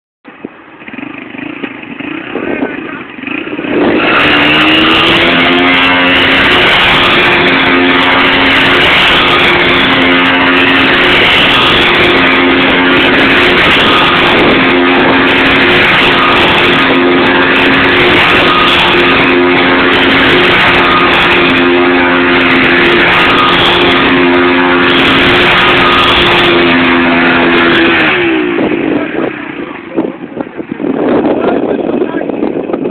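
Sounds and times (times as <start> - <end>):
constant noisy roar: 0.2 - 32.9.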